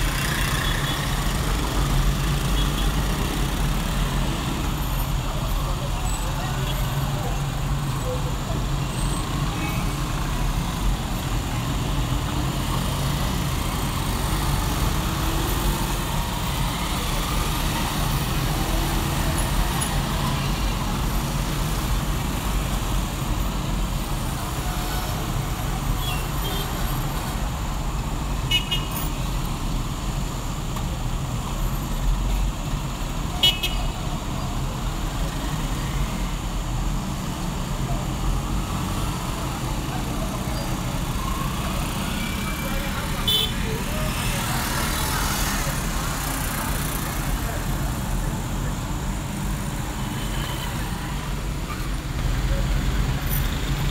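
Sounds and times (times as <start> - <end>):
street traffic rumble: 0.0 - 53.9.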